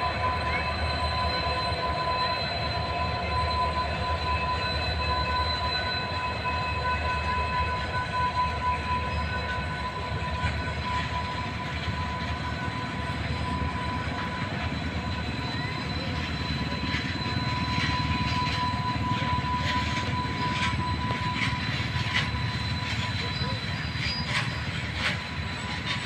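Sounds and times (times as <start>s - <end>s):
freight train rumbling: 0.0s - 26.0s
high-pitched whining tones: 0.0s - 26.0s.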